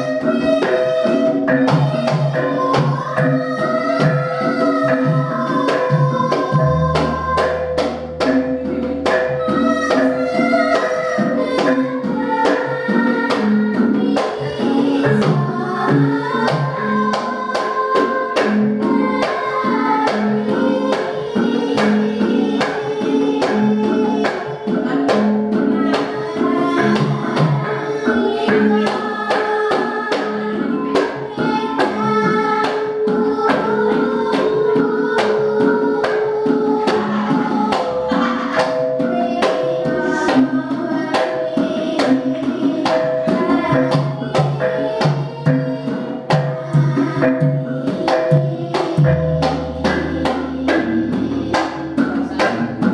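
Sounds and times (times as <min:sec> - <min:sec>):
gamelan ensemble: 0:00.0 - 0:52.9
kendang drum: 0:00.0 - 0:52.9
women singing through microphones: 0:00.0 - 0:52.9.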